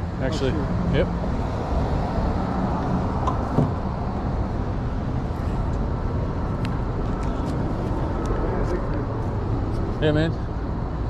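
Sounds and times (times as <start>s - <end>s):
city street rumble: 0.0s - 11.0s.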